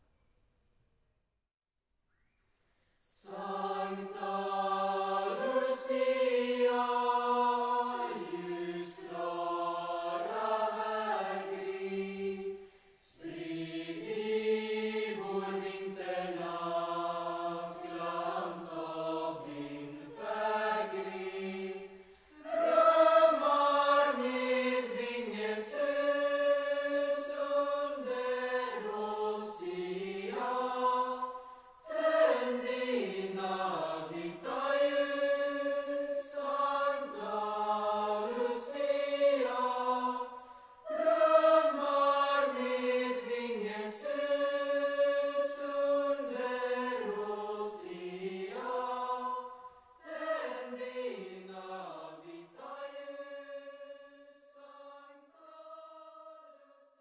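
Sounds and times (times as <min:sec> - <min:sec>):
youth choir singing: 0:03.2 - 0:57.0.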